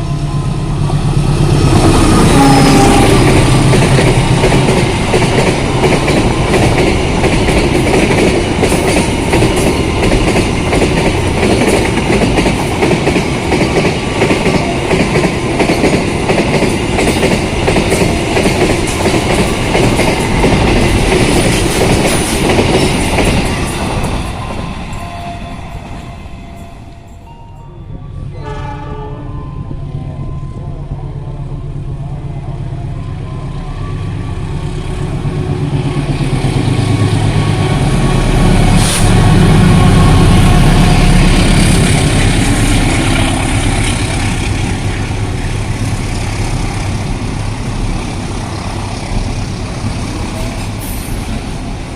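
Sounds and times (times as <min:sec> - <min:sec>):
train wheels rushing on rails: 0:00.0 - 0:27.3, 0:29.6 - 0:51.9.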